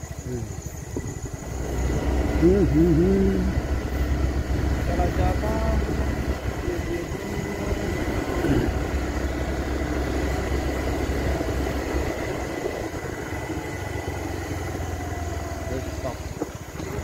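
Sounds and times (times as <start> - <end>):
road noise: 0.0 - 17.0
vehicle engine rumbling: 0.0 - 17.0.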